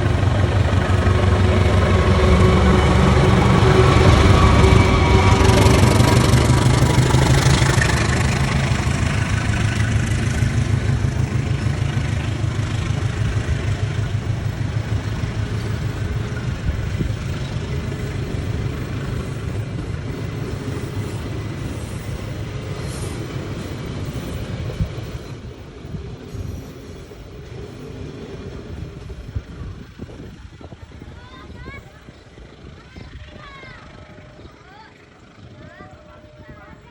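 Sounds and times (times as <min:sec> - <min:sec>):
train engine and wheels rumbling: 0:00.0 - 0:36.9.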